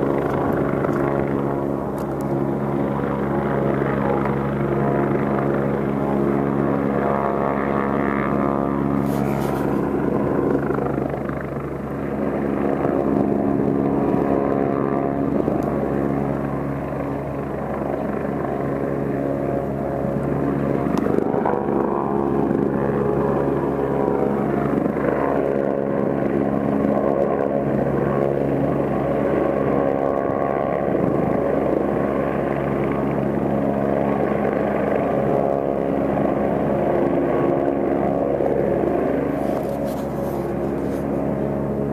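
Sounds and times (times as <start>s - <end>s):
helicopter rotor and engine drone: 0.0s - 41.9s.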